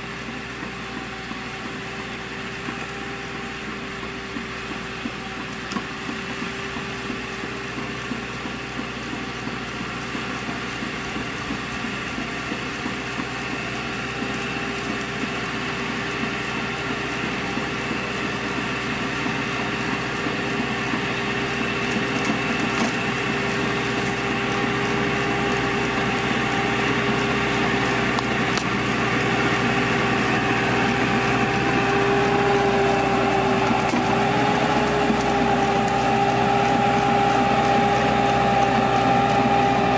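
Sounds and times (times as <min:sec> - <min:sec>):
pruning machine whine: 0:00.0 - 0:39.9
tractor engine: 0:00.0 - 0:39.9.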